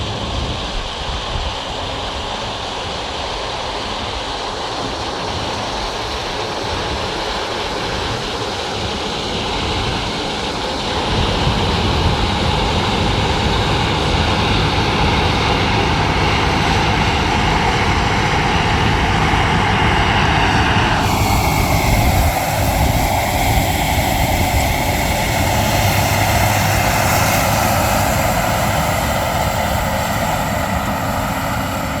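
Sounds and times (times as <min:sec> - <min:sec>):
combine harvester rumbling: 0:03.5 - 0:32.0.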